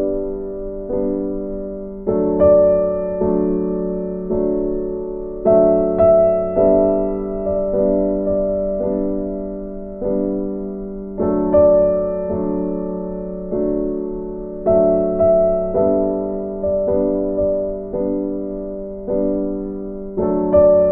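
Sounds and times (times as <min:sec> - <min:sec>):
gentle keyboard chords: 0:00.0 - 0:20.9.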